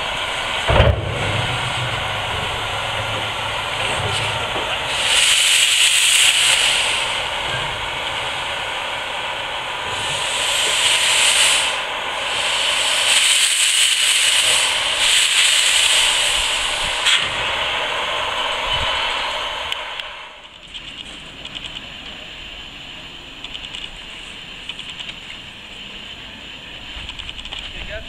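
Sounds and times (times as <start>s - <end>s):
steam hissing from locomotive: 0.0s - 28.0s.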